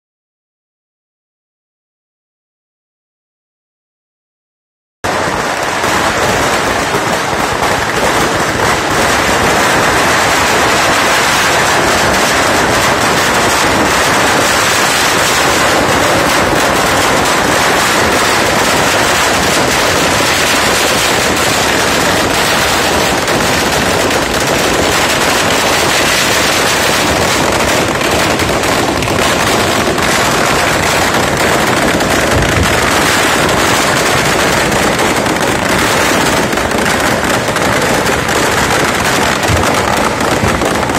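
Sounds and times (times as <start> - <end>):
firecrackers bursting: 5.0 - 40.9.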